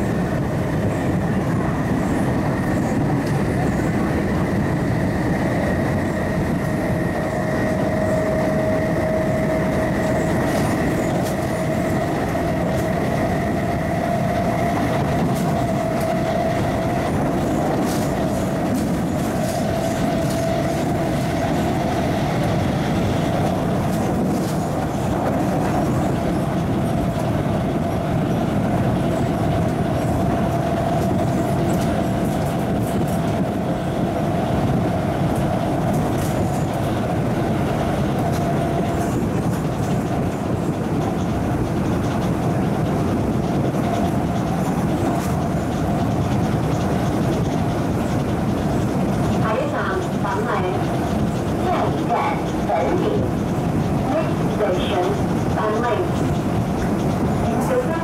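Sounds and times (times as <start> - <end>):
wheels clickety-clack: 0.0 - 58.0
wheels rumbling on rail: 0.0 - 58.0.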